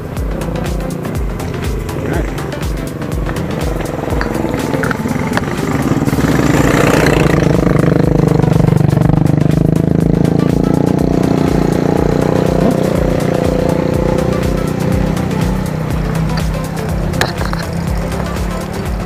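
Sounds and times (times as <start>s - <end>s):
background music: 0.0s - 19.0s
small motorcycle engines running: 0.0s - 19.0s.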